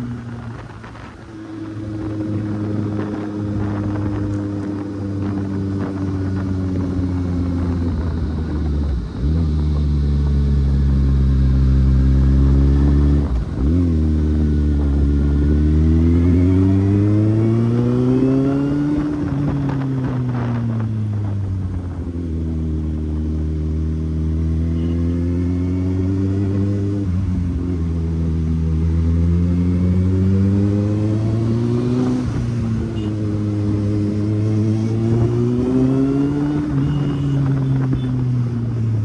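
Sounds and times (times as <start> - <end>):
motorcycle engine shifting gears: 0.0 - 39.0.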